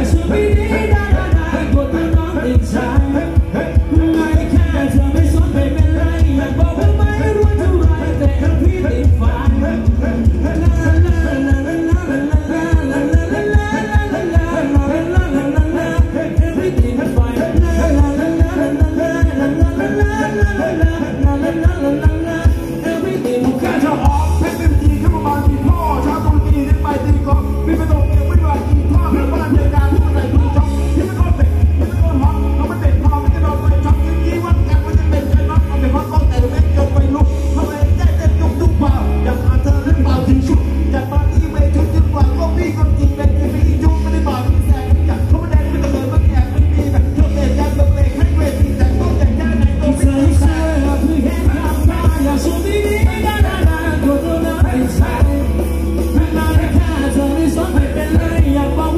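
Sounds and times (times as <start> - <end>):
heavy bass drum beat: 0.0 - 58.9
live band dance music: 0.0 - 58.9
person singing: 0.0 - 58.9.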